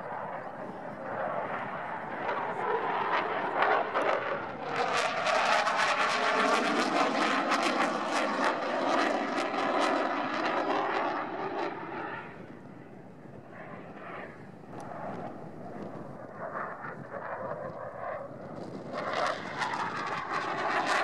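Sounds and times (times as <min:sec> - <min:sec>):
fighter jet engines roaring: 0:00.0 - 0:21.0.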